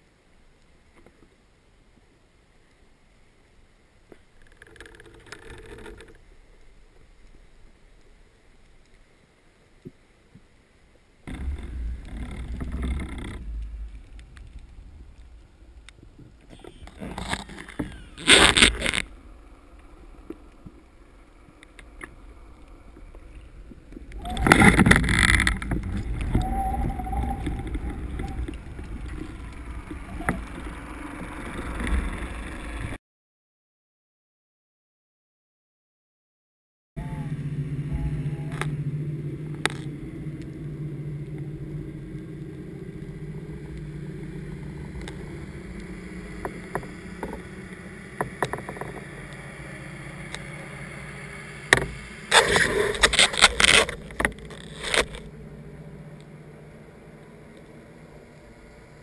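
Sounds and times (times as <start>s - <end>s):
underwater rush and gurgle: 0.0s - 33.0s, 37.2s - 59.0s.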